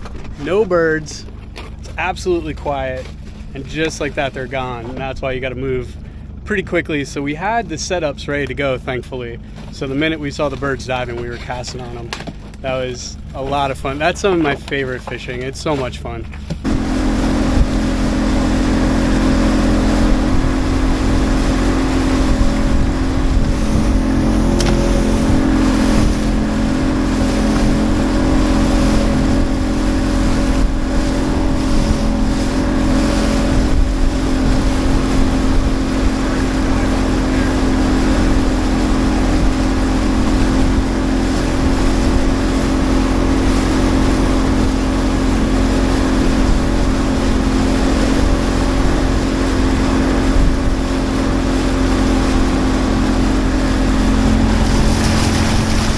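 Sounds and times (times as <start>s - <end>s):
motorboat engine drone: 0.0s - 55.9s
water noise: 0.0s - 55.9s
wind: 0.0s - 55.9s.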